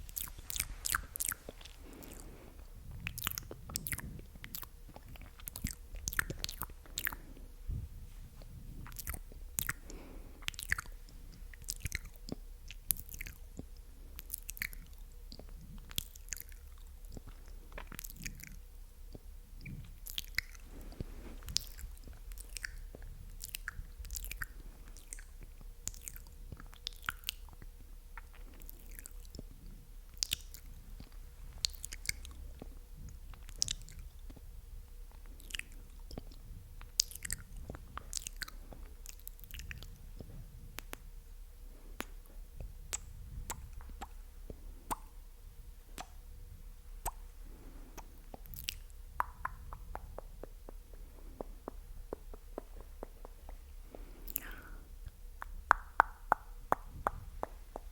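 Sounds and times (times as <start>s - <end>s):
wet mouth clicks and smacks: 0.1s - 2.2s, 2.9s - 7.2s, 8.8s - 29.5s, 30.1s - 34.5s, 35.1s - 41.1s, 42.0s - 45.2s, 45.9s - 46.2s, 47.0s - 47.3s, 48.0s - 57.9s.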